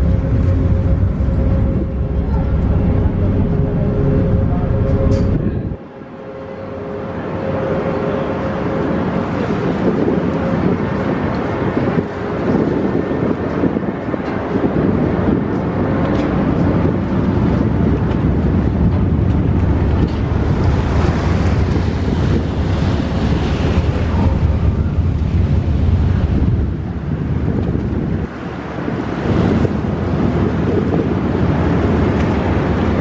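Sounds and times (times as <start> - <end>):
wind buffeting microphone: 0.0 - 6.2, 7.0 - 33.0
ferry engines running: 0.0 - 33.0
propeller churning water: 0.0 - 33.0.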